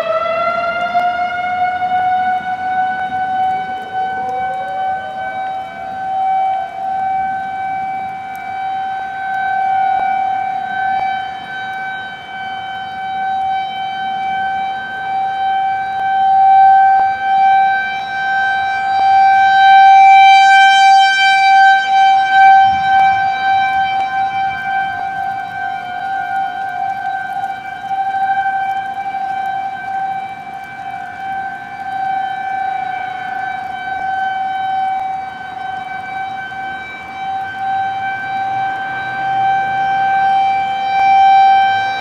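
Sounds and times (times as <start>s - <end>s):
warning siren wailing: 0.0s - 42.0s.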